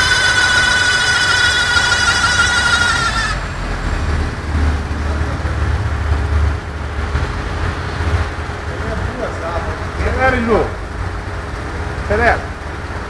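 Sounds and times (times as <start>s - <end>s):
car rolling rumble: 0.0s - 13.0s
wheel bearing whine: 0.0s - 13.0s.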